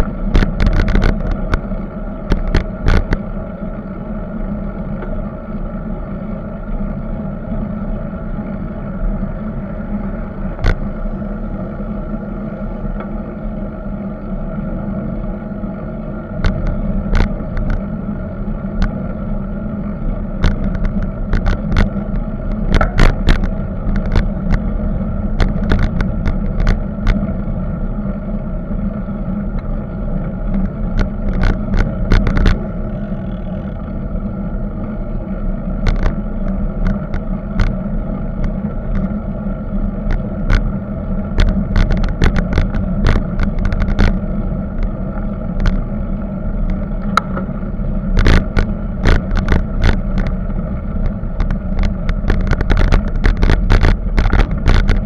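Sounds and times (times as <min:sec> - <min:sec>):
bicycle rattling over bumps: 0:00.0 - 0:55.0
road and wind rumble: 0:00.0 - 0:55.0.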